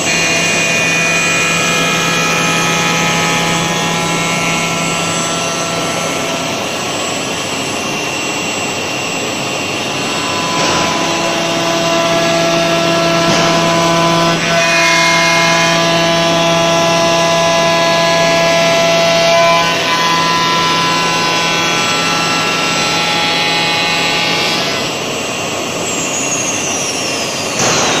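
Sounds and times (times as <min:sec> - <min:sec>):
machine spindle whining: 0:00.0 - 0:28.0.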